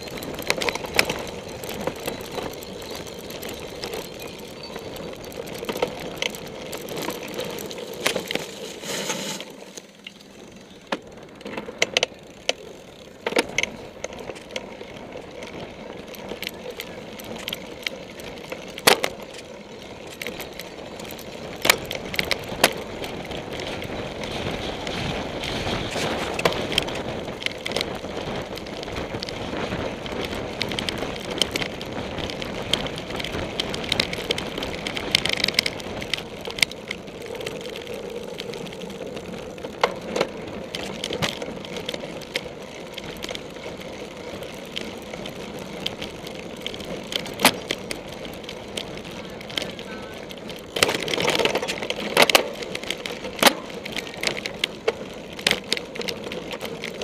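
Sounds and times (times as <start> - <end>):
bike rattling and knocking: 0.0 - 57.0
wind: 0.0 - 57.0.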